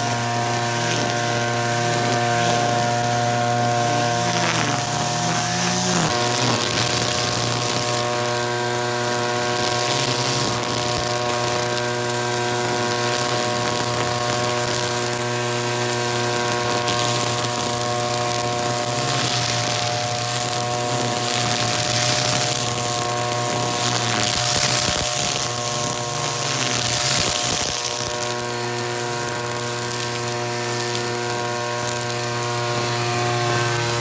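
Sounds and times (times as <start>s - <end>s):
brush cutter engine running: 0.0s - 34.0s
trimmer line cutting grass: 0.0s - 34.0s.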